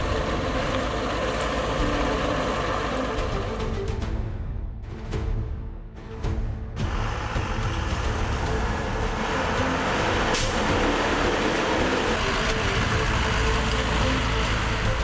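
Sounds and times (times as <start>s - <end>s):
tyre and road noise: 0.0s - 4.1s, 6.8s - 15.0s
truck engine running: 0.0s - 4.2s, 6.3s - 15.0s.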